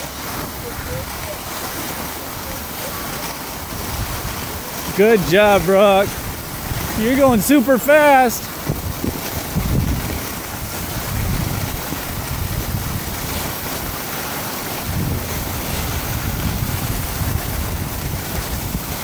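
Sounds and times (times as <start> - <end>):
skis sliding on snow: 0.0 - 19.0
wind buffeting microphone: 0.0 - 19.0.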